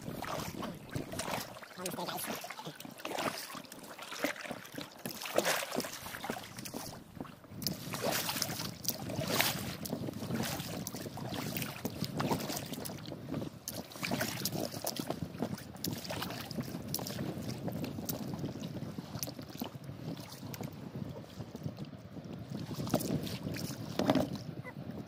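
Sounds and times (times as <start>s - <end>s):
wind on microphone: 0.0s - 3.6s, 5.6s - 25.0s
oars knocking and splashing: 0.0s - 20.7s, 22.5s - 24.8s
water lapping against rubber hull: 0.0s - 25.0s.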